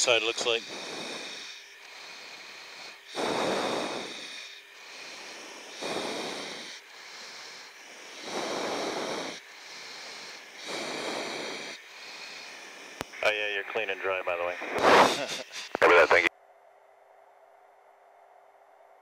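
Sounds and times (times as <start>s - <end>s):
steady cockpit hum: 0.0s - 17.6s
person breathing into microphone: 0.4s - 16.3s.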